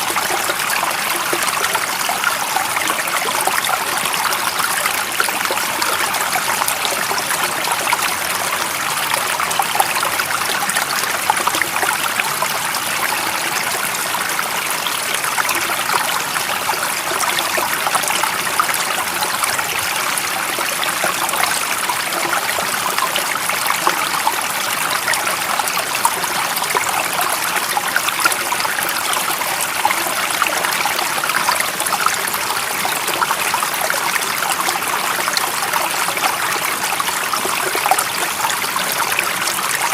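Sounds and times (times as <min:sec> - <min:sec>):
stream water running and splashing: 0:00.0 - 0:39.9.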